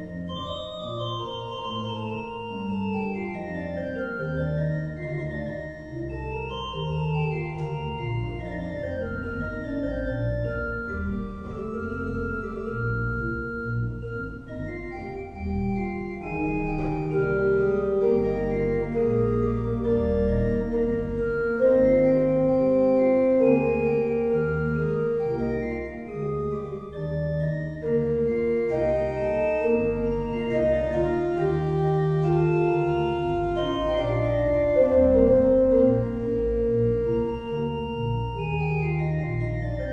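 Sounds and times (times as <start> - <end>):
organ playing slow chords: 0.0 - 39.9.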